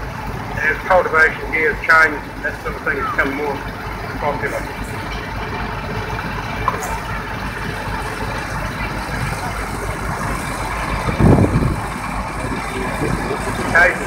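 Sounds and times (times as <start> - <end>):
tractor diesel engine driving by: 0.0 - 14.0.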